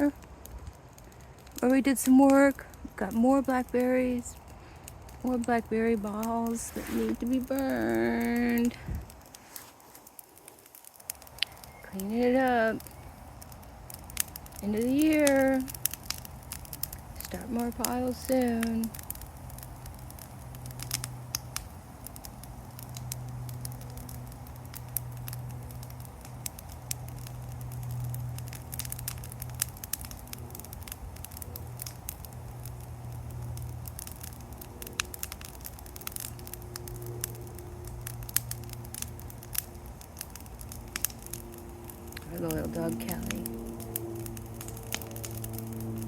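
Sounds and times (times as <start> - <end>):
low steady rumble: 0.0 - 9.4, 10.1 - 46.0
bonfire crackling: 0.0 - 46.0
sharp pops of fire: 0.0 - 46.0.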